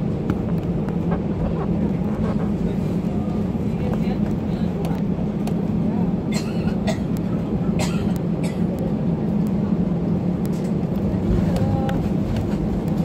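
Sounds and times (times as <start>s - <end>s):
aircraft engine and airflow rumble: 0.0s - 13.0s.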